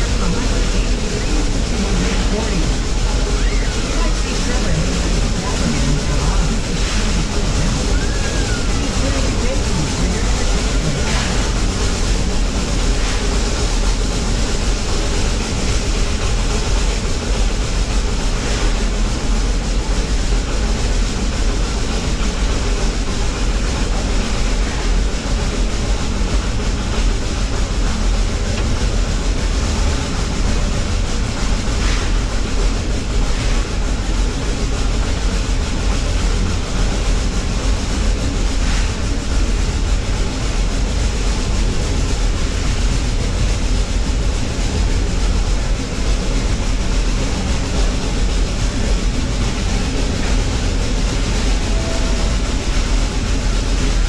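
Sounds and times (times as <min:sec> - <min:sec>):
steam train wheels rumbling on rails: 0:00.0 - 0:54.0.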